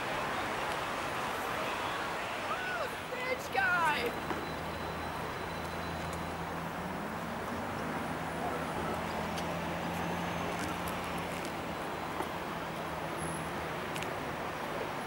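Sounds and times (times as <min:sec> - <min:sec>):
city road traffic hum: 0:00.0 - 0:15.0.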